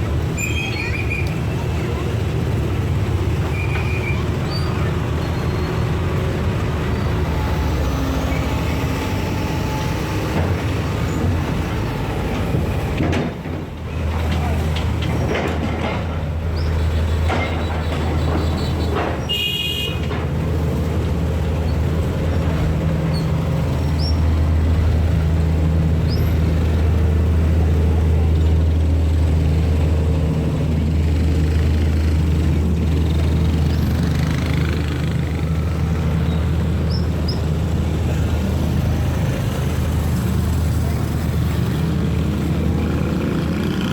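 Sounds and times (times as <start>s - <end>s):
engine rumbling: 0.0s - 43.9s.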